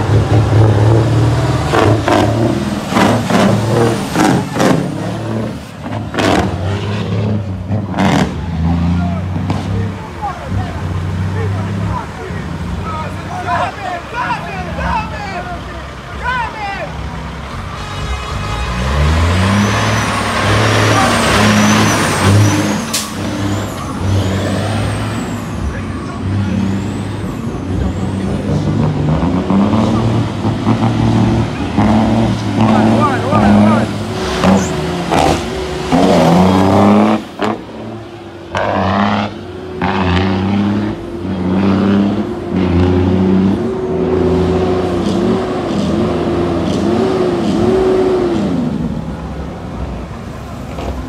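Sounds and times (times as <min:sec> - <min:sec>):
trucks driving past: 0:00.0 - 0:51.0.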